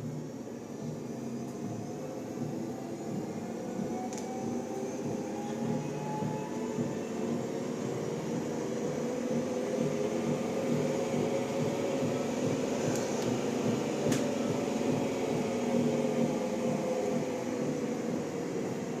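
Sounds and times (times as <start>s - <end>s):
treadmill motor hum: 0.0s - 19.0s.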